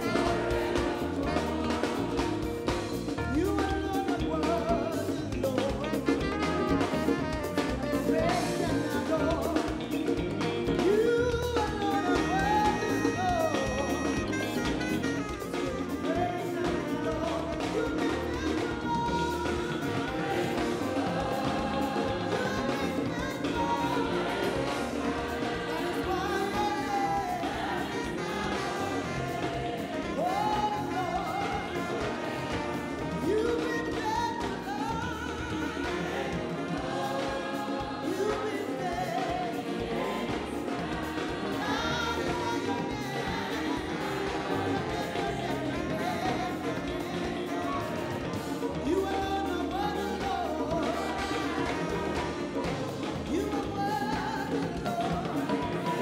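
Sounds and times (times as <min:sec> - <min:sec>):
gospel choir singing: 0:00.0 - 0:56.0
live band with drums and guitar: 0:00.0 - 0:56.0.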